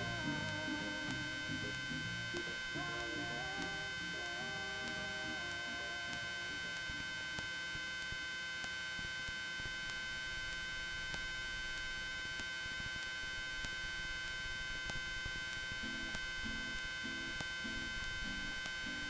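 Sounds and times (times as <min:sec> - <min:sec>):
electronic hum and high whine: 0:00.0 - 0:19.0.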